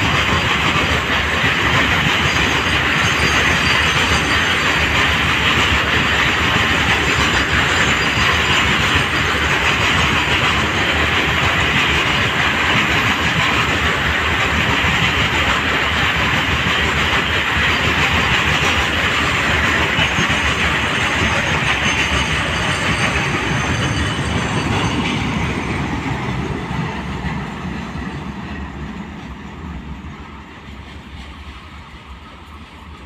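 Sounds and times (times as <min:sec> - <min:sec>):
freight train wheels on rails: 0:00.0 - 0:33.0.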